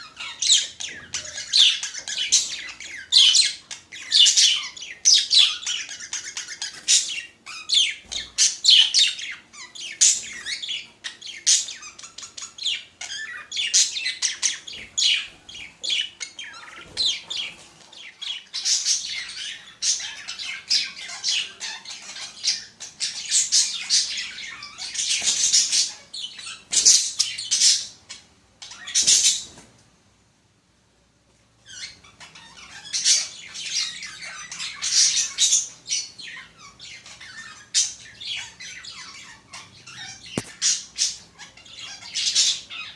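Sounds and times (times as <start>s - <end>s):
budgerigars chattering: 0.0s - 29.4s, 31.7s - 42.9s.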